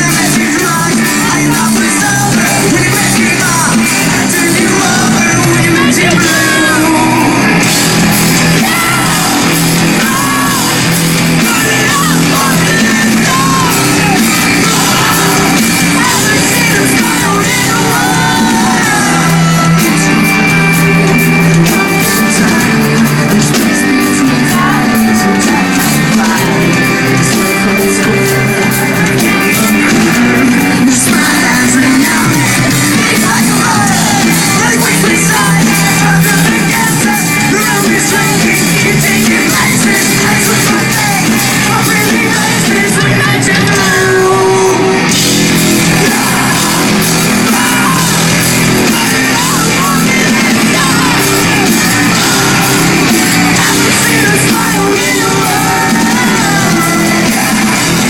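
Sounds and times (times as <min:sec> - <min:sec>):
live rock band playing: 0:00.0 - 0:58.0
sung and shouted vocals: 0:00.0 - 0:58.0.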